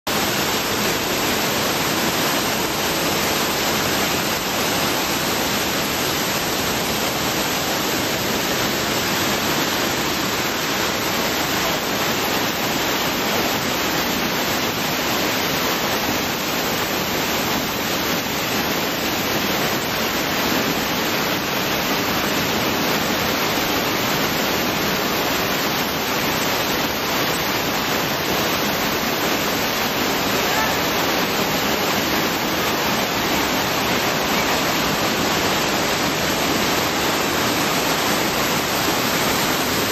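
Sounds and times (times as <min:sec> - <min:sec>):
waterfall splashing onto rock: 0:00.1 - 0:39.9.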